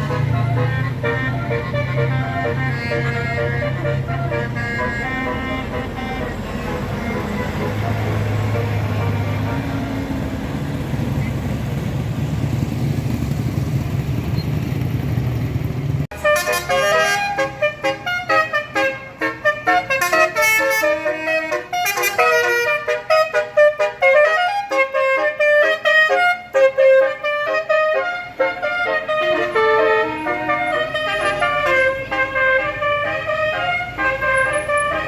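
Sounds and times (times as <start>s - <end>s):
musical air horn melody: 0.0s - 10.3s, 16.1s - 35.0s
engine and traffic rumble: 0.0s - 35.0s.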